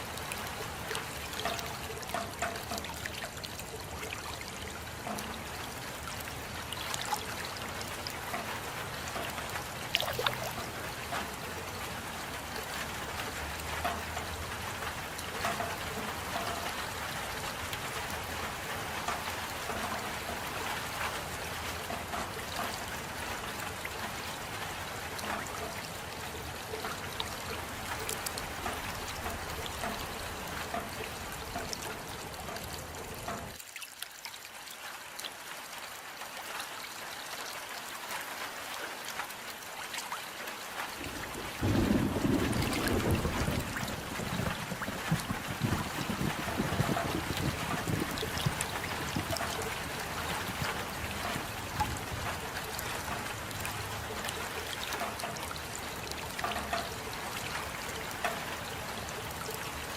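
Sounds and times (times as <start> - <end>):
steady rain hissing: 0.0 - 33.7, 34.4 - 59.9.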